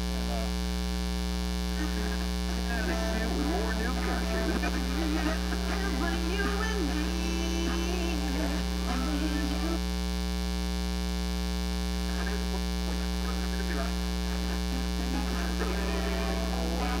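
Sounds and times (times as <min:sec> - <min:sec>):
mains hum and buzz: 0:00.0 - 0:17.0.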